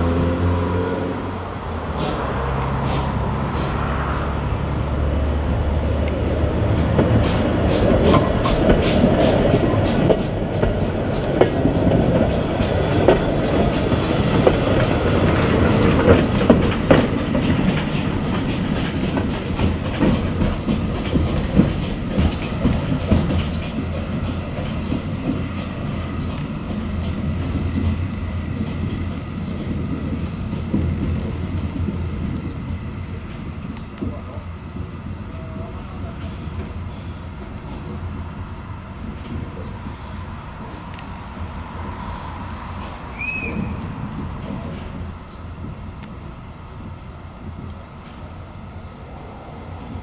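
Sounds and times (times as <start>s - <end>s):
train wheels clanking over rail joints: 0.0s - 48.4s
steady train rumble: 0.0s - 50.0s.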